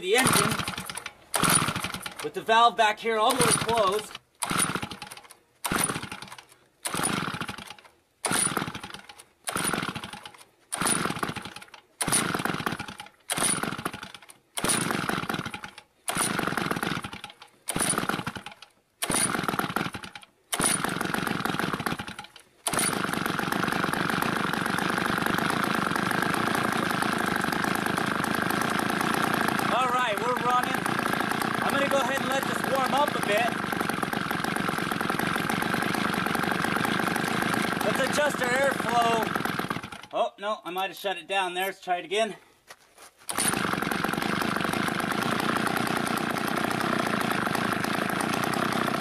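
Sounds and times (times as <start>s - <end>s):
chainsaw engine running: 0.0s - 40.2s, 43.2s - 49.0s
chainsaw pull-start bursts: 0.0s - 40.2s, 43.2s - 49.0s.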